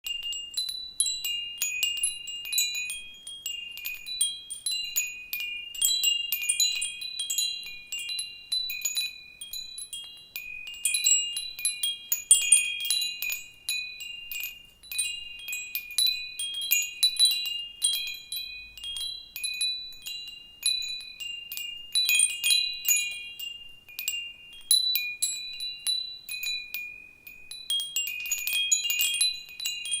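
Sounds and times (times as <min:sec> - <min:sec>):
metal wind chimes ringing: 0:00.0 - 0:30.0.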